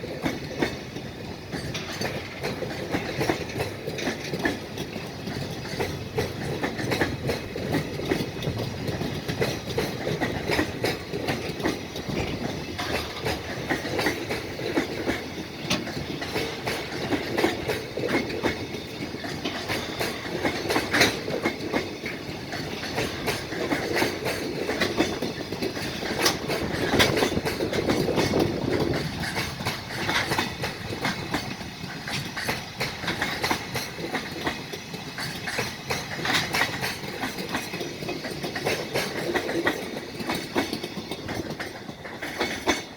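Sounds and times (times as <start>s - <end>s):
freight train passing: 0.0s - 42.9s
wheels clacking over rail joints: 0.0s - 42.9s.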